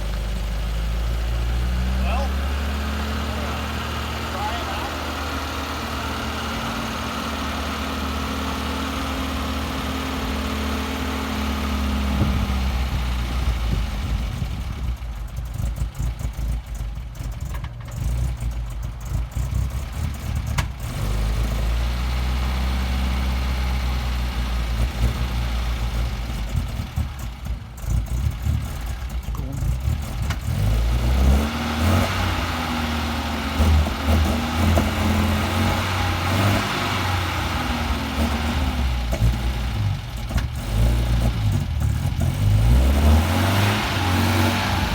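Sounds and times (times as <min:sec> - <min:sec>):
car engine misfiring: 0:00.0 - 0:44.9.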